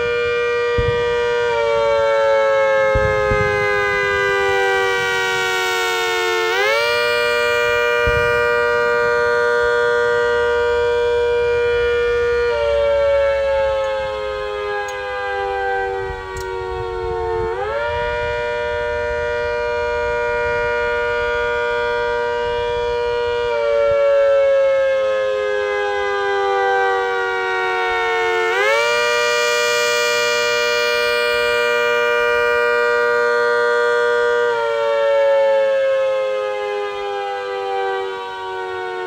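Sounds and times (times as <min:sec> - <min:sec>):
rotating siren wailing: 0:00.0 - 0:39.0.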